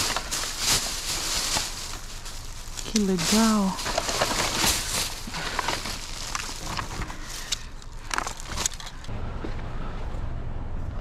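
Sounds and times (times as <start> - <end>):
plastic bags rustling: 0.0 - 9.1
low steady rumble: 0.0 - 11.0.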